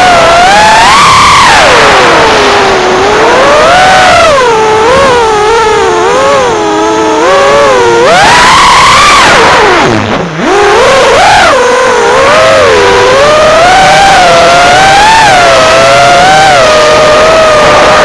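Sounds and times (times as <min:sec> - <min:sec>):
drone motors and propellers whining: 0:00.0 - 0:18.0.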